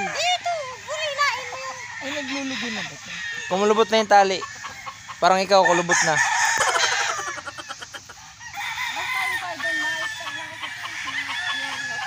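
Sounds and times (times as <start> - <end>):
chickens clucking: 0.0 - 12.0
roosters crowing: 0.0 - 12.0.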